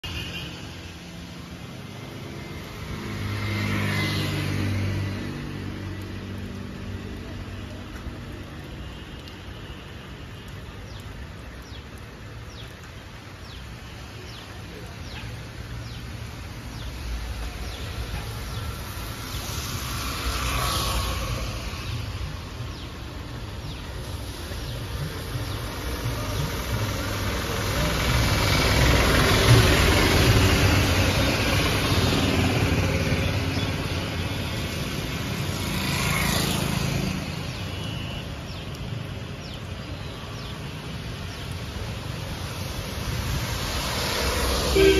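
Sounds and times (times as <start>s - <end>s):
rain hiss: 0.1s - 44.9s.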